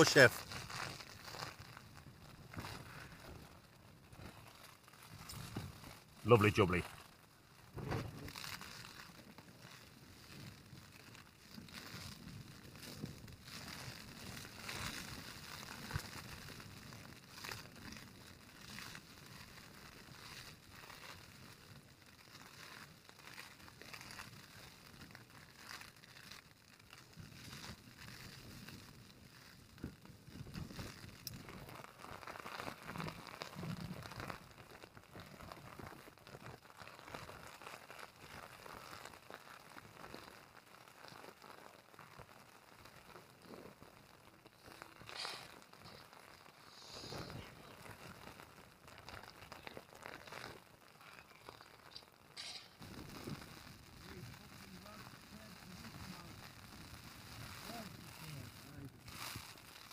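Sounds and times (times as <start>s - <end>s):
faint rustling and crinkling: 0.0s - 59.9s.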